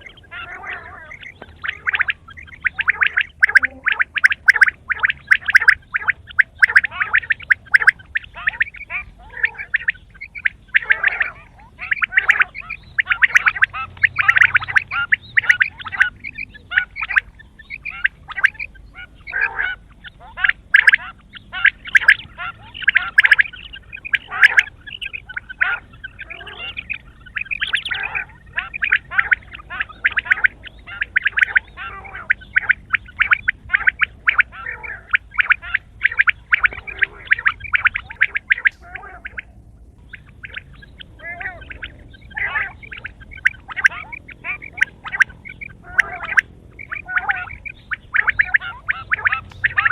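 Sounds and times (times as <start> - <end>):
quail calling: 0.0 - 49.9.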